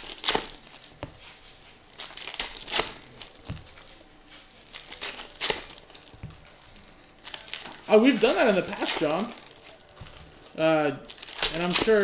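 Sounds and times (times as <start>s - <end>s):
foil wrappers crinkling and tearing: 0.0s - 12.0s.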